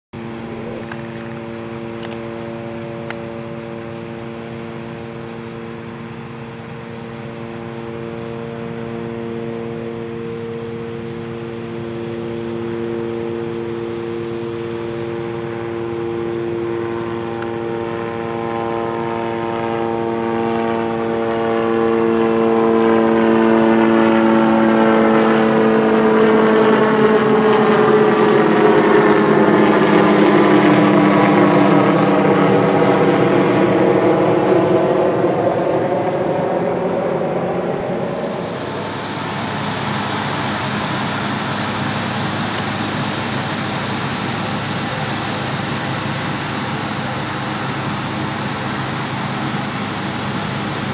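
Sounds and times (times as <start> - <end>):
combine harvester whine: 0.2 - 50.9.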